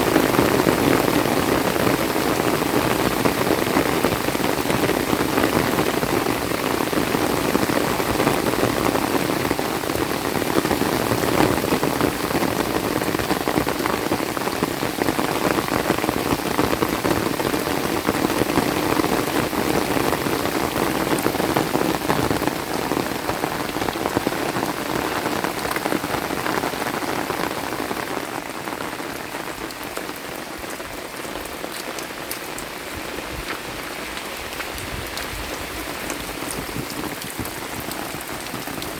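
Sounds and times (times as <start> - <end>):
heavy rain on vegetation: 0.0 - 38.9.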